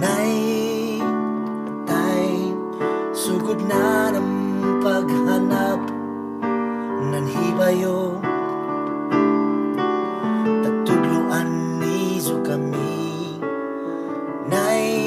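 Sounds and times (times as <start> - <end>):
slow piano and keyboard music: 0.0 - 15.0.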